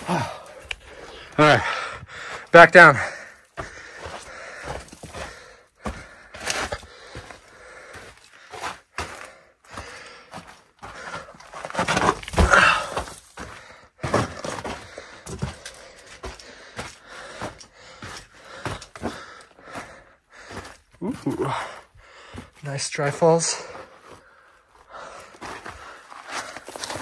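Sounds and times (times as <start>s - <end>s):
footsteps on gravel: 0.0s - 27.0s.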